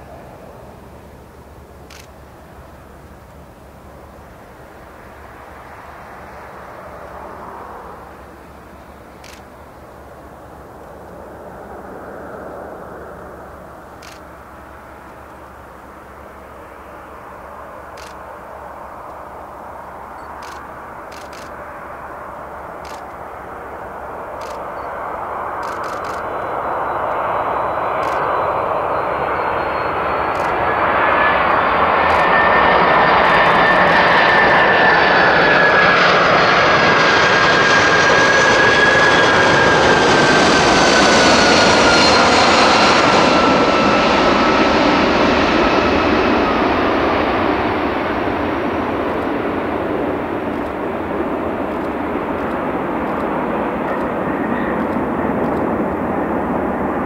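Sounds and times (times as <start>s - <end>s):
jet engines whining and rumbling: 0.0s - 57.0s.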